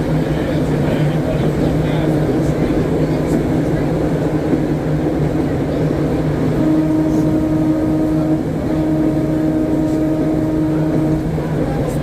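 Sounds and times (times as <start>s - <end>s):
trolley car rumbling on track: 0.0s - 12.0s.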